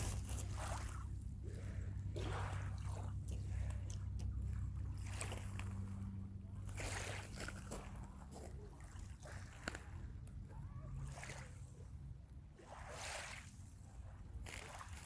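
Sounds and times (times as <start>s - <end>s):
steady low rumble: 0.0s - 12.7s
small waves lapping: 0.0s - 15.0s.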